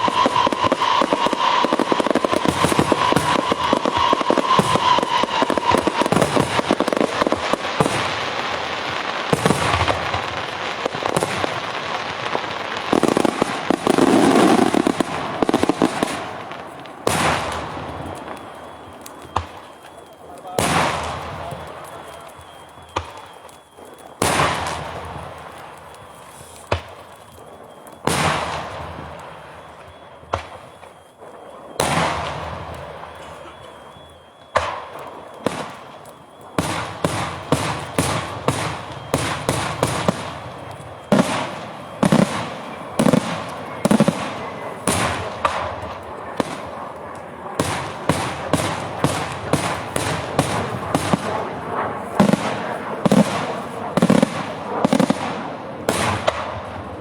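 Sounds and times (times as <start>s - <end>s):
fireworks bangs: 0.0s - 57.0s
rapid string of firework blasts: 0.0s - 57.0s.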